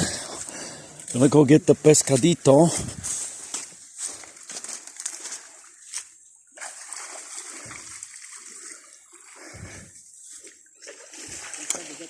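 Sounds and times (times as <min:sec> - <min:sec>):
pond water splashing: 0:00.0 - 0:12.0.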